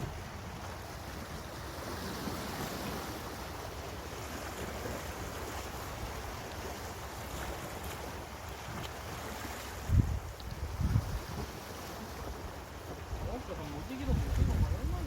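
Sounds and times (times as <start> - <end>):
wind rumbling on microphone: 0.0 - 3.4, 4.0 - 15.0
sea waves on rocky shore: 0.0 - 15.0.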